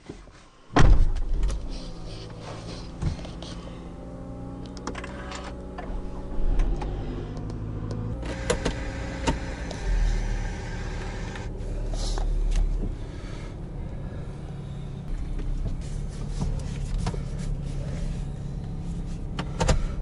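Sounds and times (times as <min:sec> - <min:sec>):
car engine rumble: 0:00.7 - 0:20.0.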